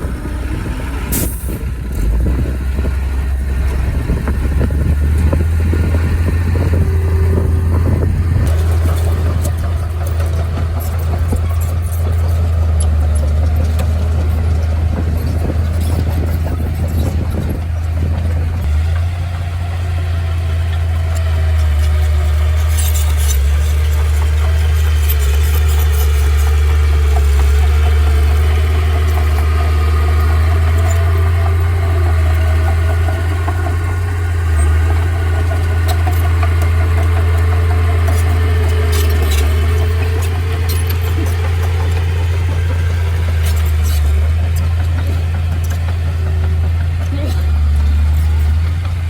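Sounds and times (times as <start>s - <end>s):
heavy vehicle engine droning: 0.0s - 49.0s.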